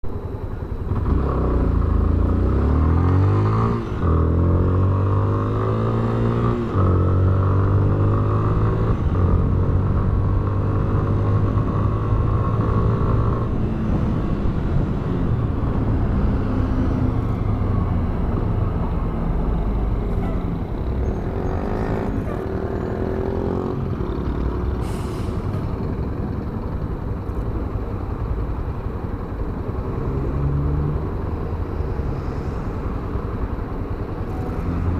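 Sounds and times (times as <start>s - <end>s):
road noise: 0.0s - 34.9s.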